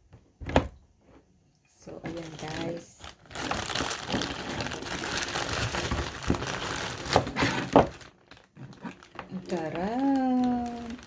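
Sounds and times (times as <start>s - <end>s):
plastic packaging crinkling: 2.0s - 11.0s.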